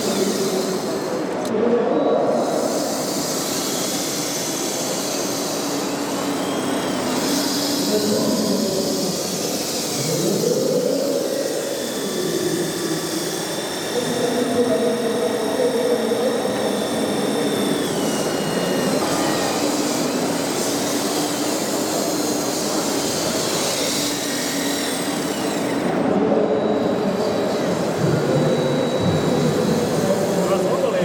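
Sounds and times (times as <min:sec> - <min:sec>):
electric motors whining: 0:00.0 - 0:31.0.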